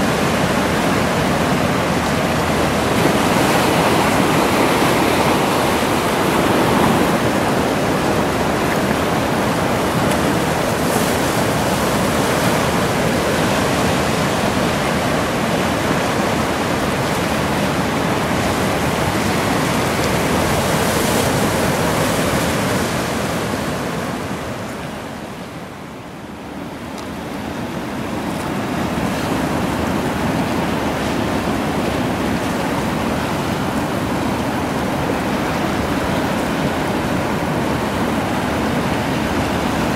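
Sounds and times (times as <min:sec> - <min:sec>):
sea water washing over rocks: 0:00.0 - 0:39.9.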